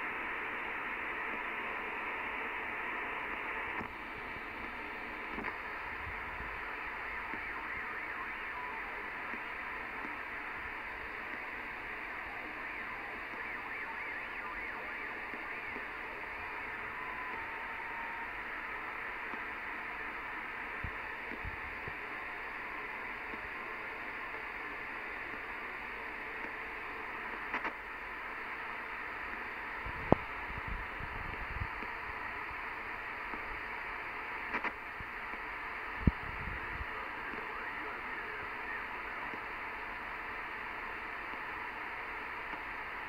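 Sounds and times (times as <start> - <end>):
faint high wobbling whine: 0.0 - 43.0
radio static hiss: 0.0 - 43.0.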